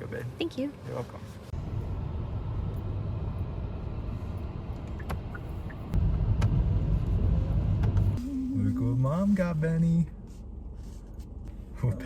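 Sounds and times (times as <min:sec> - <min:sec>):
car rumble inside cabin: 0:01.6 - 0:12.0.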